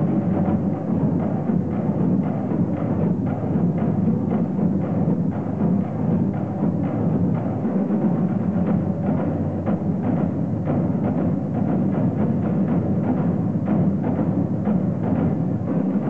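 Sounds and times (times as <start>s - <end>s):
marching band drum beat: 0.0s - 16.0s.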